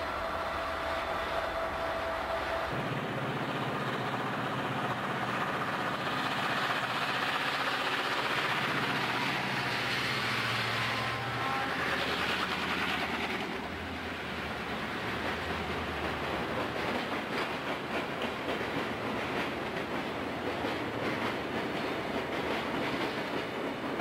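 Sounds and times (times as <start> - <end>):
diesel locomotive engines running: 0.0 - 24.0
rumble of train cars: 0.0 - 24.0.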